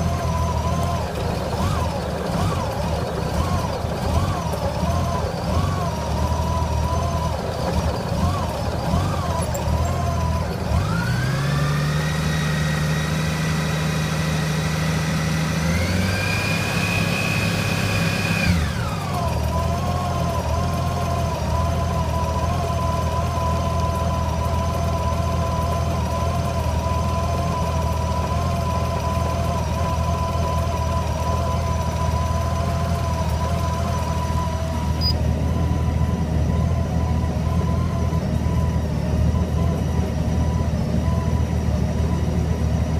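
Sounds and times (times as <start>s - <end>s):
motorcycle engine idling and revving: 0.0s - 42.9s.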